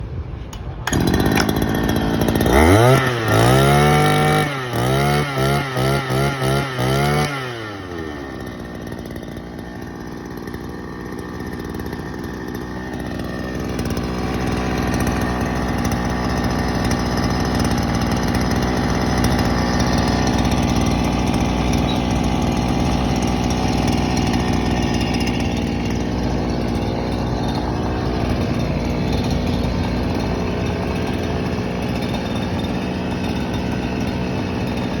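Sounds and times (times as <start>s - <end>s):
grass trimmer engine revving: 0.5s - 35.0s.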